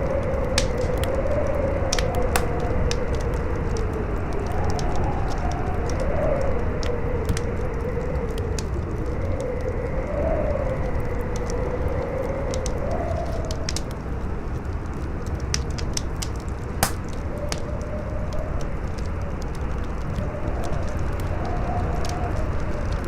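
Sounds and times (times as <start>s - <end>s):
campfire crackling and popping: 0.0s - 23.0s
howling wind: 0.0s - 23.0s.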